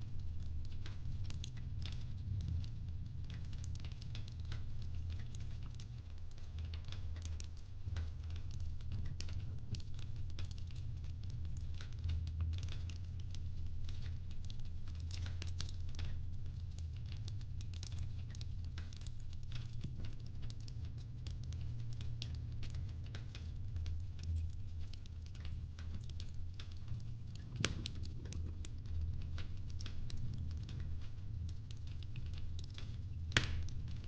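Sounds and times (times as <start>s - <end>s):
fireplace crackling: 0.0s - 34.0s.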